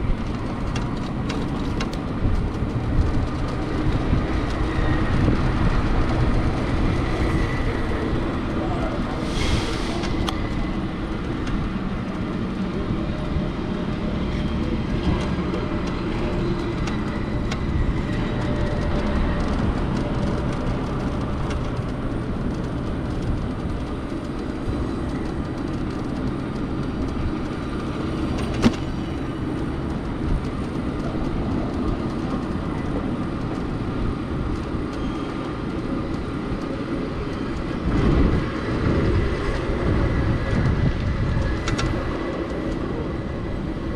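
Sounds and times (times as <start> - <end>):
road and wind noise: 0.0 - 43.9.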